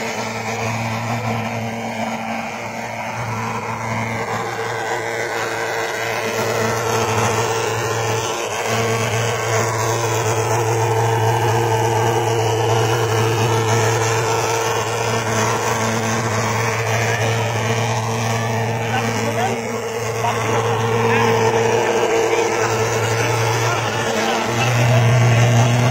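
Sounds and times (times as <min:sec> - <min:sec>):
thermal fogger droning: 0:00.0 - 0:25.9.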